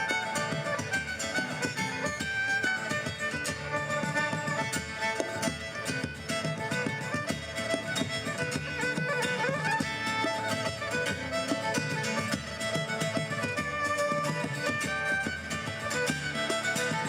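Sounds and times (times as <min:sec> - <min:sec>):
folk band playing lively tune: 0:00.0 - 0:17.0.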